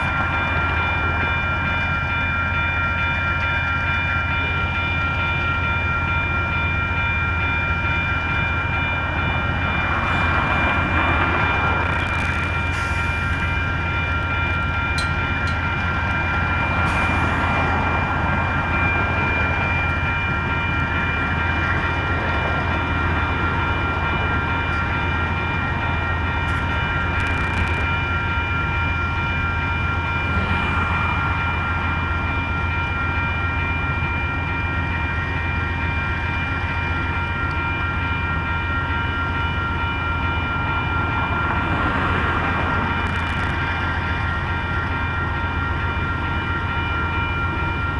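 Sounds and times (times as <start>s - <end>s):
diesel locomotive engine drone: 0.0s - 47.9s.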